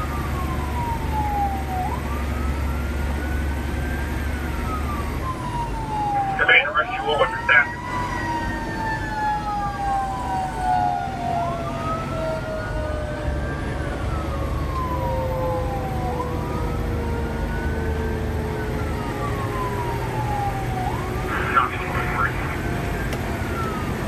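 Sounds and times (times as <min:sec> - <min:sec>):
truck engine rumble: 0:00.0 - 0:10.4, 0:11.1 - 0:24.0
fire engine siren wailing: 0:00.0 - 0:24.0
lower siren tone winding down: 0:00.0 - 0:24.0.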